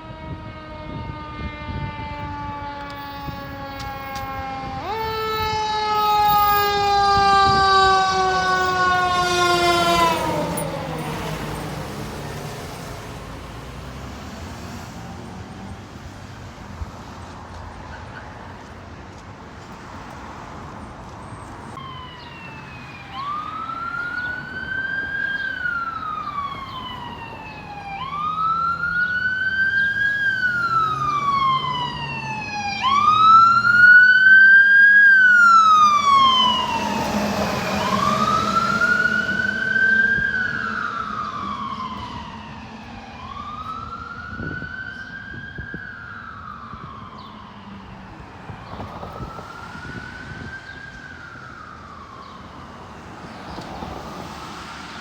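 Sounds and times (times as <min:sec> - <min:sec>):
fire truck siren wailing: 0:00.0 - 0:16.9, 0:21.8 - 0:55.0
engine and road noise: 0:00.0 - 0:55.0.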